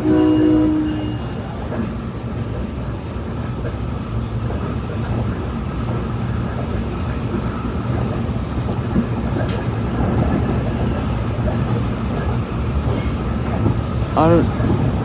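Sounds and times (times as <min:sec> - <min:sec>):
train running hum and rumble: 0:00.0 - 0:15.0.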